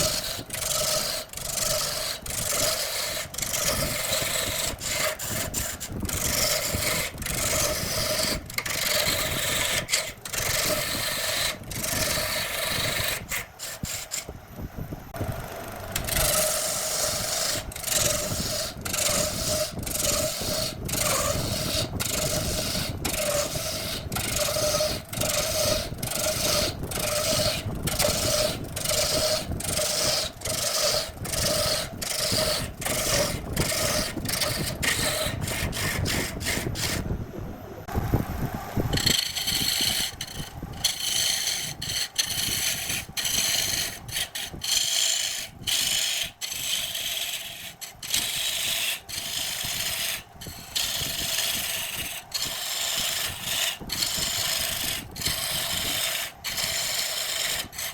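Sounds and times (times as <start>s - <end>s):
lathe hum: 0.0s - 14.3s, 15.2s - 57.9s
tool rasping on turning wood: 0.0s - 14.3s, 16.0s - 37.0s, 38.9s - 57.9s.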